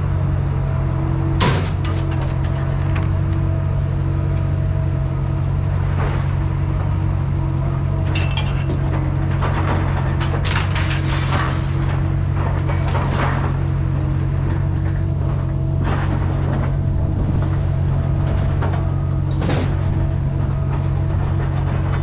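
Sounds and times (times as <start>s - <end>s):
vehicle engine and road drone: 0.0s - 22.0s.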